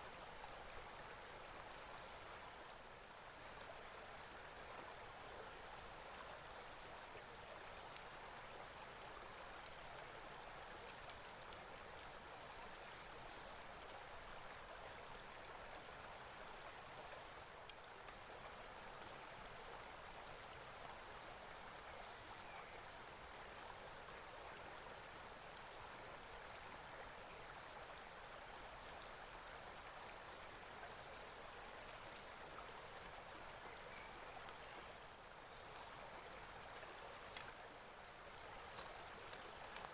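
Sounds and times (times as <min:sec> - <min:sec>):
faint stream flowing: 0:00.0 - 0:39.9.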